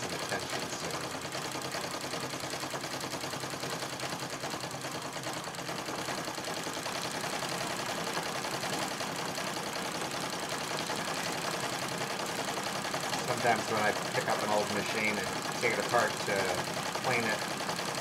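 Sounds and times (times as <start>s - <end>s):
sewing machine clattering: 0.0s - 18.0s.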